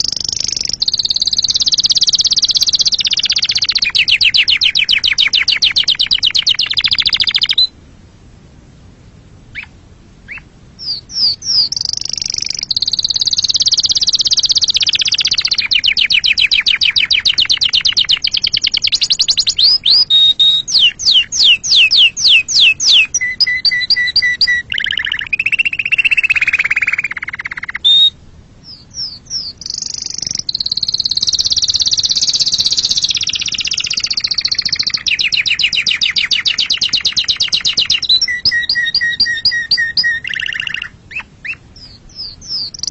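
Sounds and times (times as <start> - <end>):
canary singing: 0.0 - 7.8, 9.5 - 42.9.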